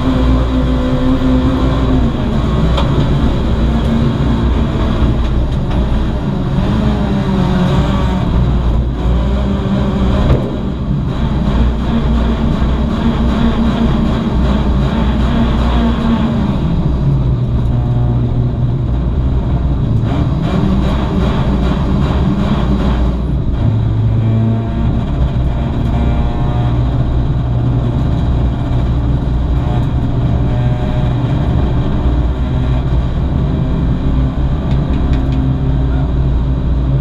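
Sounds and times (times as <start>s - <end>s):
car engine running from inside cabin: 0.0s - 37.0s.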